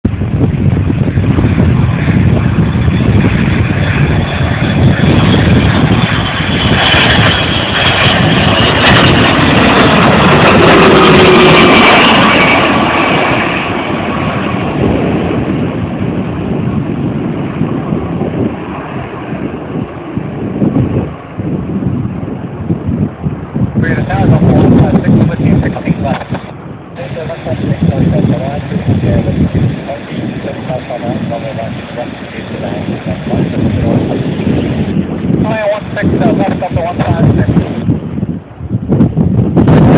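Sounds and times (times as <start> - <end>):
jet plane passing by: 0.1 - 39.9.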